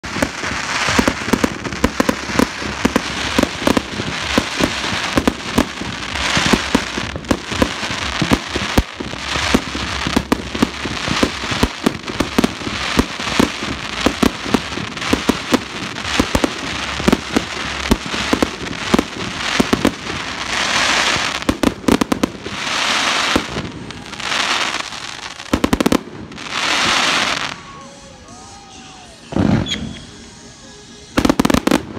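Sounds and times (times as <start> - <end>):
fireworks bangs: 0.0 - 30.4, 31.0 - 31.9
fireworks crackle: 0.0 - 31.9.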